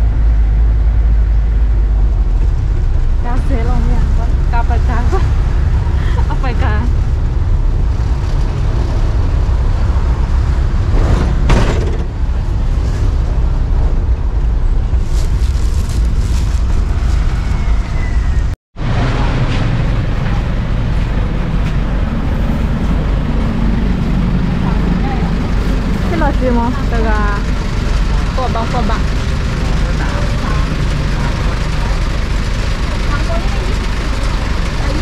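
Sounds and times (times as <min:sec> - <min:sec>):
vehicle engine and road rumble: 0:00.0 - 0:35.0.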